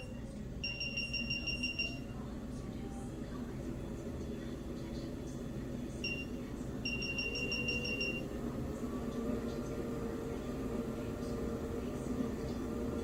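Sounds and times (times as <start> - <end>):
treadmill motor humming: 0.0 - 13.0.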